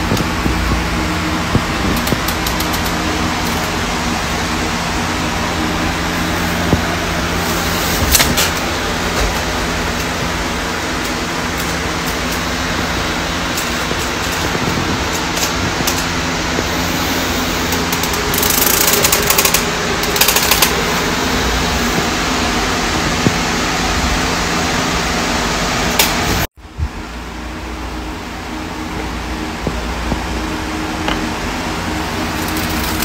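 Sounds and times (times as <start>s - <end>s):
electric fan running: 0.0s - 33.0s.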